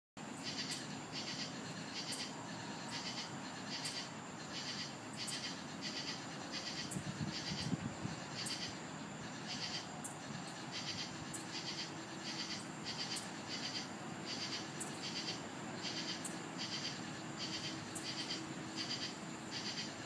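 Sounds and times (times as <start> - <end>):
crickets chirping: 0.2 - 20.0
night-time hiss: 0.2 - 20.0.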